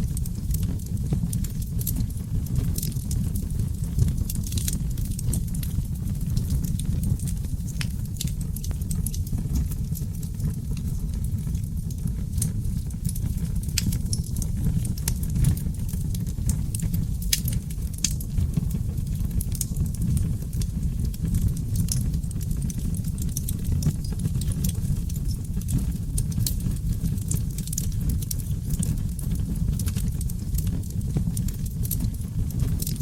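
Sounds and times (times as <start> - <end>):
crackles and pops of fire: 0.0 - 33.0
logs burning in a fireplace: 0.0 - 33.0.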